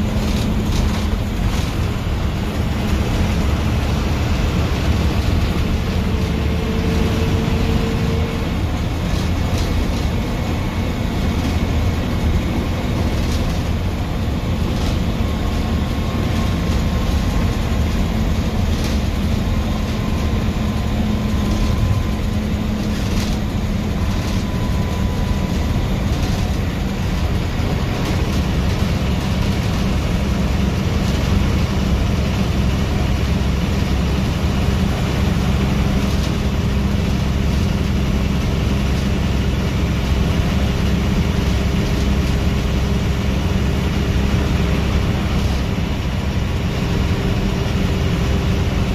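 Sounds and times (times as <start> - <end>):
bus engine and road rumble: 0.0 - 48.9.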